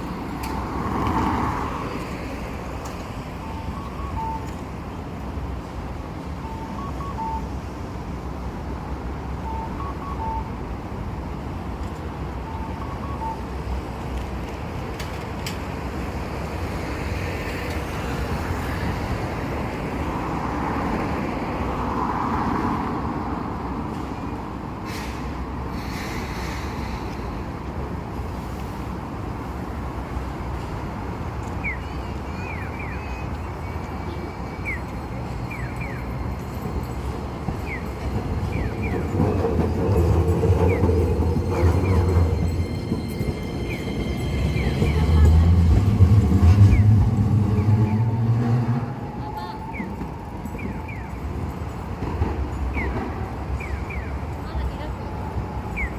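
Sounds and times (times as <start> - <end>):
street traffic noise: 0.0 - 55.9.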